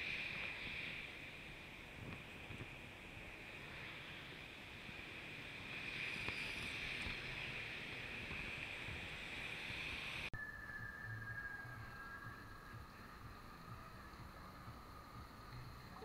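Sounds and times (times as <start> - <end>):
faint steady whine: 0.0 - 16.0
street noise: 0.0 - 16.0
wind: 0.0 - 16.0.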